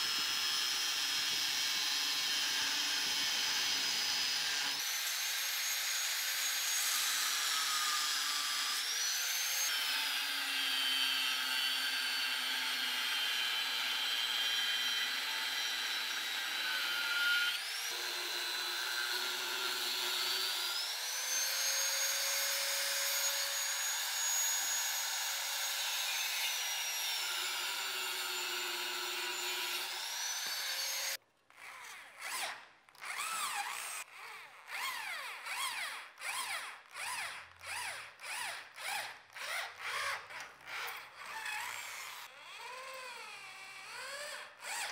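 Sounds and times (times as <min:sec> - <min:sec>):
angle grinder cutting steel: 0:00.0 - 0:44.9
electric drill boring steel: 0:00.0 - 0:44.9.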